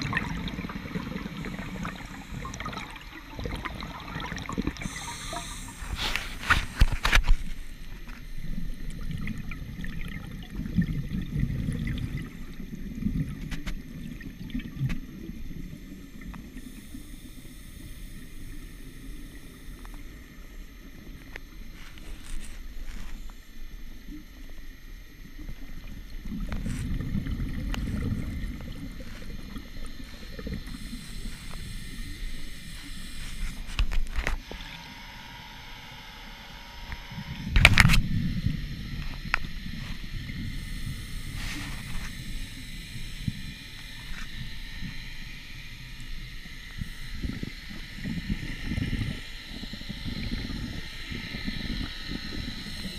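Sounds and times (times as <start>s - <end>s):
underwater bubbles gurgling: 0.0s - 35.4s, 36.9s - 52.9s.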